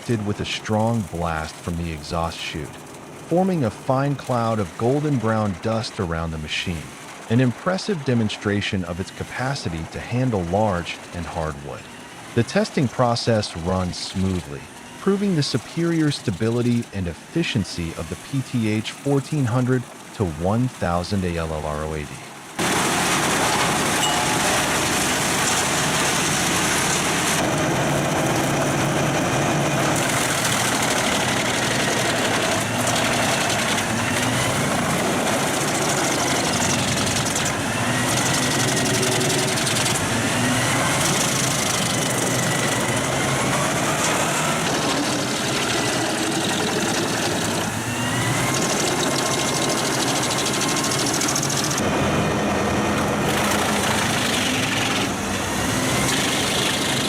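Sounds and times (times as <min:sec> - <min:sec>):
wood chipper chipping wood: 0:00.0 - 0:19.1, 0:22.6 - 0:57.0.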